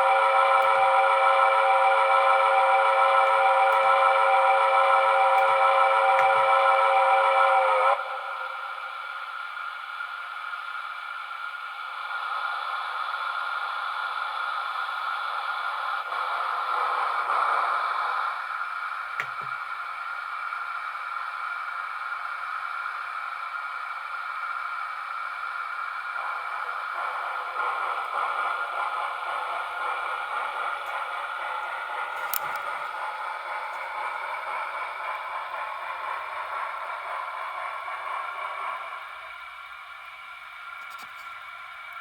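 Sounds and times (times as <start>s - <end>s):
steam locomotive hiss from small speaker: 0.0s - 42.0s.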